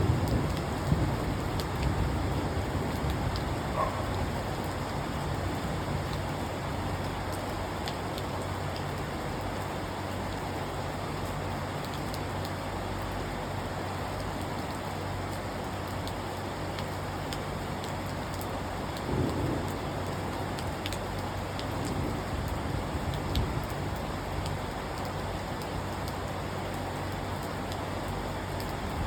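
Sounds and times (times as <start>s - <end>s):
steady rain pouring: 0.0s - 29.0s
raindrops ticking on a window: 0.1s - 29.0s.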